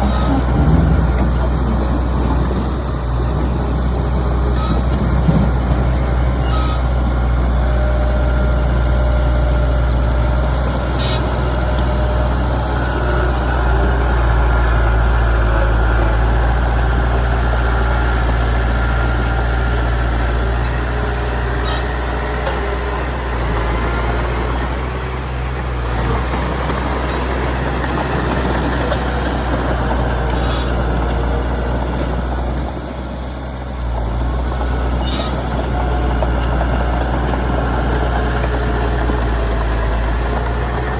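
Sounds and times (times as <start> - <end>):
heavy diesel engine rumbling: 0.0 - 40.9.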